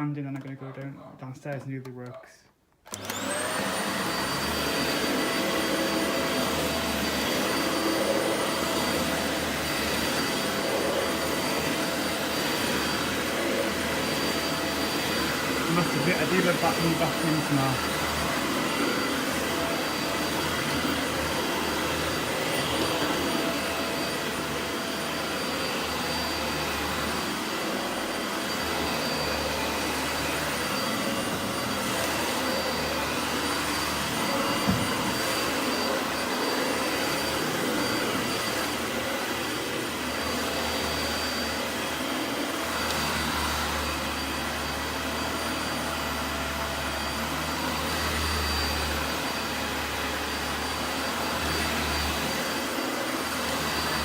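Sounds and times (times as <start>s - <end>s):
upright vacuum cleaner running: 2.8s - 54.0s.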